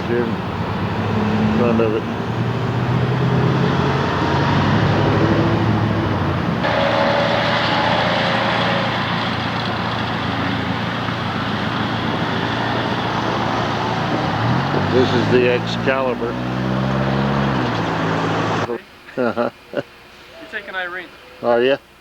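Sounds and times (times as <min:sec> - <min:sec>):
road noise from moving vehicles: 0:00.0 - 0:22.0.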